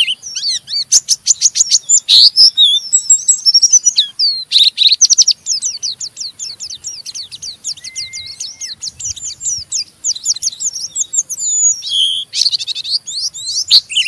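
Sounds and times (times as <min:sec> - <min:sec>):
bird chattering chirps: 0:00.0 - 0:14.0
steady bird whistle: 0:00.0 - 0:14.0.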